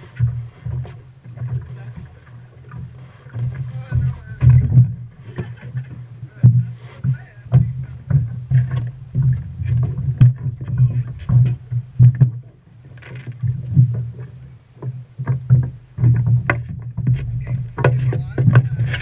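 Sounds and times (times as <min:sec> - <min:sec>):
knocks and thumps in wooden boat: 0:00.0 - 0:19.0
water rumbling against hull: 0:00.0 - 0:19.0.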